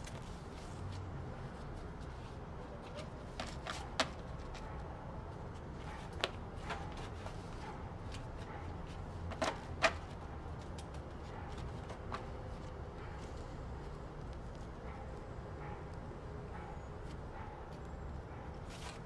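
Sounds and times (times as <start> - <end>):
banknotes rustling: 0.0 - 14.7, 17.0 - 19.0.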